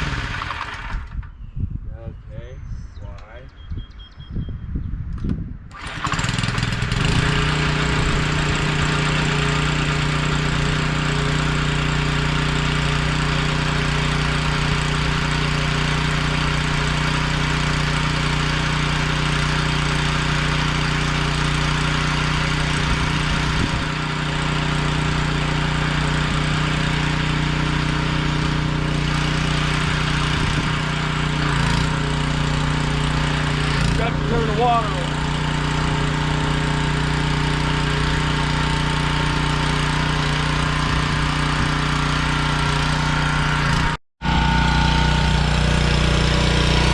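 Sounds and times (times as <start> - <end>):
small gasoline engine running: 0.0 - 1.4, 5.7 - 46.9.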